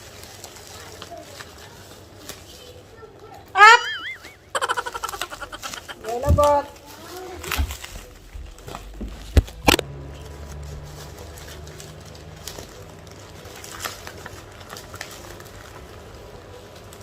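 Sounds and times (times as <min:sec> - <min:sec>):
packaging crackling and rustling: 0:00.0 - 0:03.5, 0:04.2 - 0:17.0.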